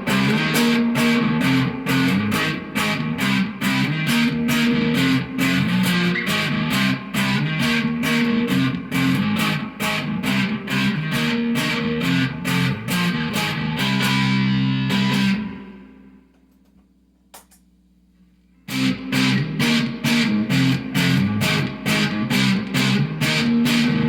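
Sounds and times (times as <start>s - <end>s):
electric guitar riff: 0.0s - 16.3s, 18.6s - 24.0s.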